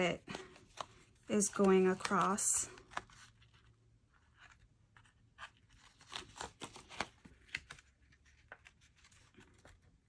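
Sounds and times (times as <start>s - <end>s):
hands rustling cardstock and ribbon: 0.1s - 10.0s.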